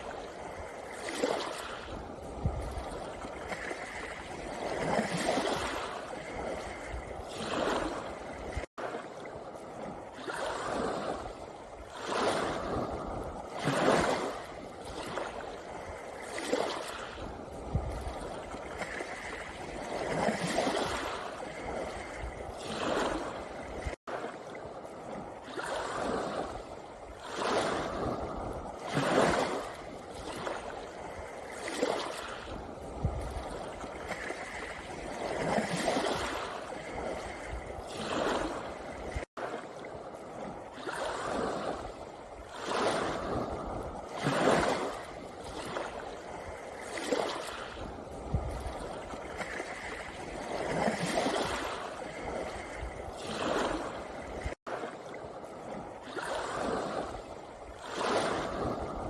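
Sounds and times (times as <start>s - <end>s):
waves washing onto pebble beach: 0.0s - 58.9s.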